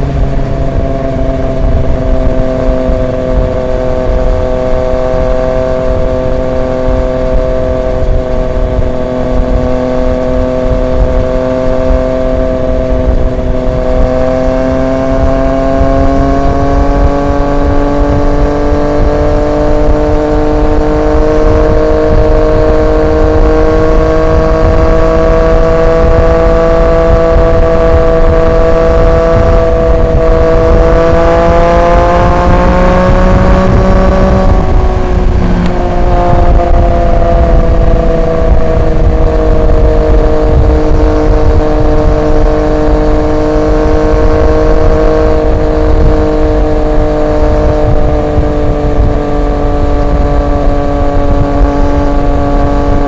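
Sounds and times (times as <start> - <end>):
low wind rumble: 0.0 - 53.0
motorcycle engine cruising: 0.0 - 53.0.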